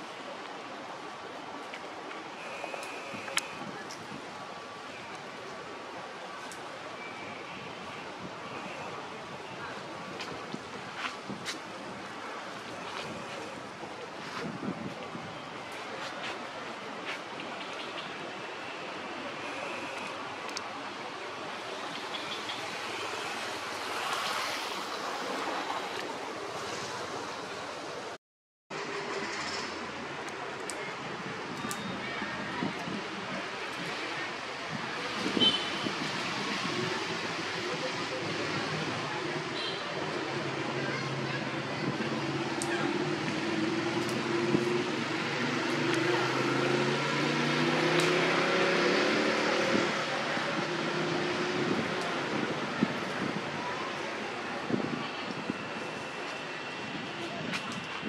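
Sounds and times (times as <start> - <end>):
steady outdoor rushing noise: 0.0 - 58.0.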